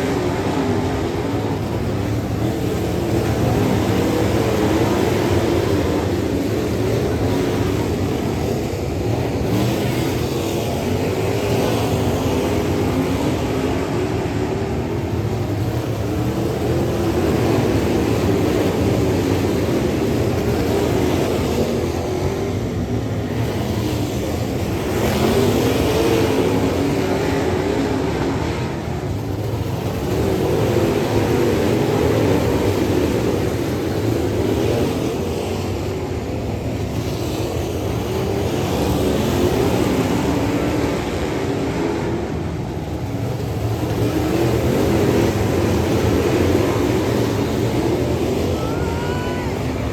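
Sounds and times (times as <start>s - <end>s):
race car engine racing: 0.0s - 49.9s.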